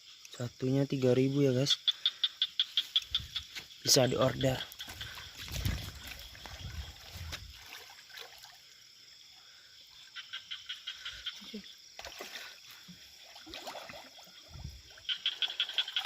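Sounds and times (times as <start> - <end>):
frogs croaking: 0.0 - 16.0.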